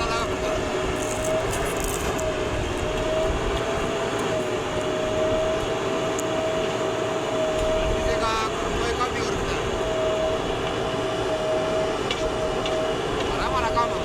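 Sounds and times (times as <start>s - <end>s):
diesel engine running: 0.0s - 14.0s
steady high whine: 0.0s - 14.0s.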